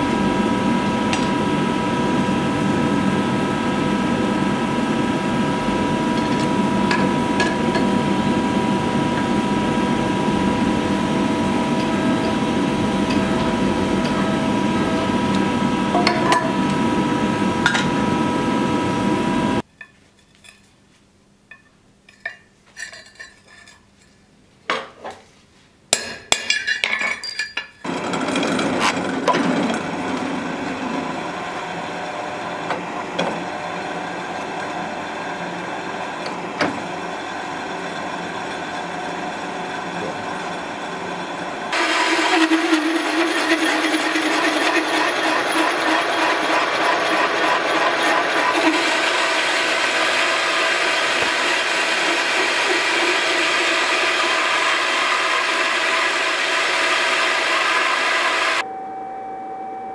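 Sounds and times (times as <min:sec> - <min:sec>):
drill press cutting steel: 0:02.2 - 0:19.6, 0:27.8 - 0:58.6.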